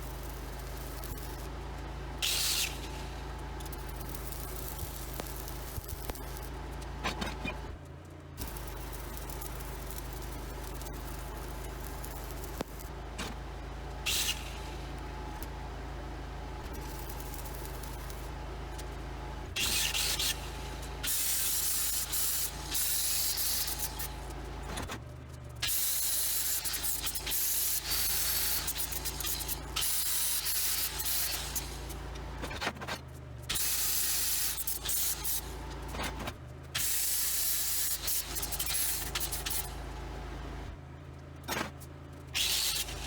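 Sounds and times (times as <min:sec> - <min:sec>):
welding crackling hiss: 0:00.0 - 0:07.8, 0:08.4 - 0:15.7, 0:16.6 - 0:24.7, 0:25.6 - 0:32.5, 0:33.5 - 0:35.9, 0:36.8 - 0:40.0, 0:42.4 - 0:43.0.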